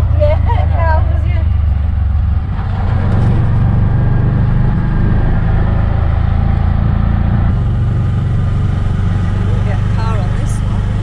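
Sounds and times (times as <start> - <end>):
auto-rickshaw engine running: 0.0 - 11.0
road noise: 0.0 - 11.0.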